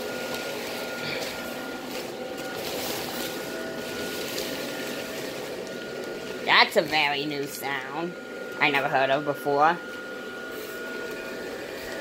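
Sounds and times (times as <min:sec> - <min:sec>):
blower fan running with whine: 0:00.0 - 0:12.0.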